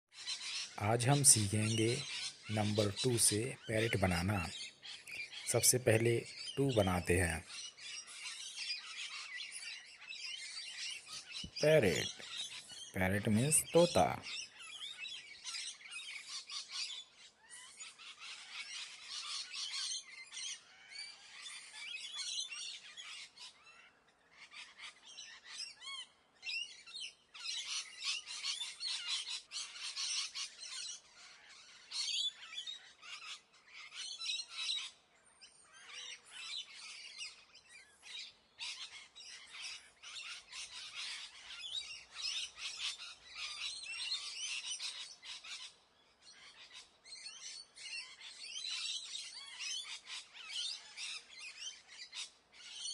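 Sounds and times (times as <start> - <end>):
birds chirping and twittering: 0.0 - 52.9.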